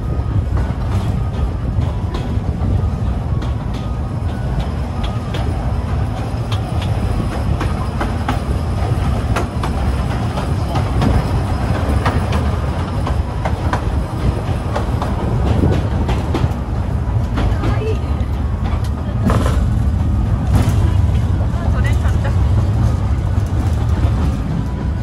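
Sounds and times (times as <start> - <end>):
train rumbling along track: 0.0 - 25.0
wheels clacking on rails: 0.0 - 25.0.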